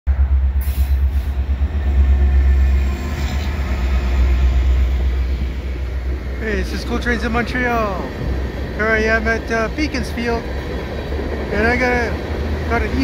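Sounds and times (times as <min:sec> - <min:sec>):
locomotive engine rumbling: 0:00.1 - 0:13.0
rail cars rolling: 0:00.1 - 0:13.0.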